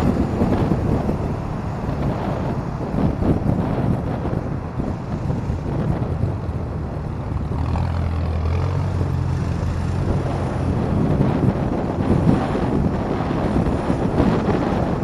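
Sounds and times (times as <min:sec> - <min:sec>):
motorcycle engine drone: 0:00.0 - 0:15.0
wind noise on microphone: 0:00.0 - 0:15.0.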